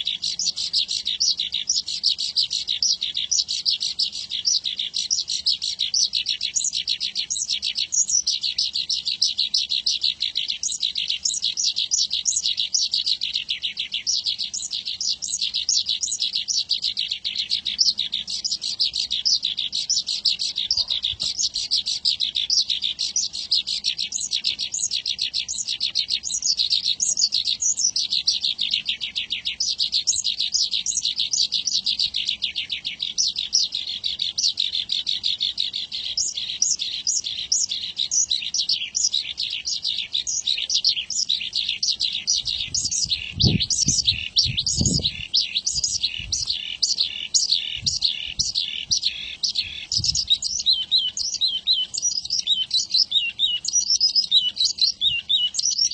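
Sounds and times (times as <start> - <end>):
bush lark singing rapid chirps: 0.0 - 55.9.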